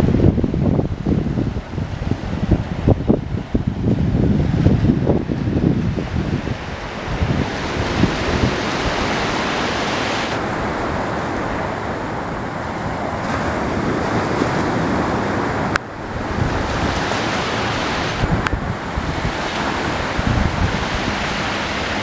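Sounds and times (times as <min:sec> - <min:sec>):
ocean surf washing onto beach: 0:00.0 - 0:22.0
wind on microphone: 0:00.0 - 0:22.0.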